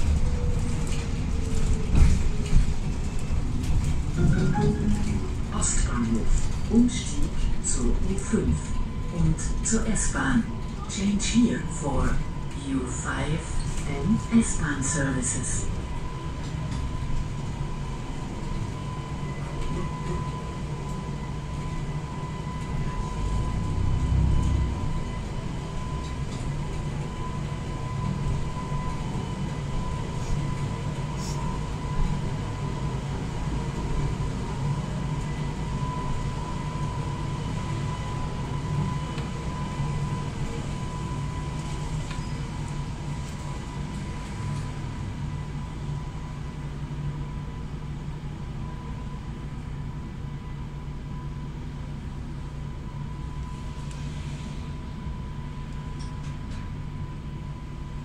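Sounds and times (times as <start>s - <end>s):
bus engine drone: 0.0s - 58.0s
thin steady whine: 4.2s - 58.0s.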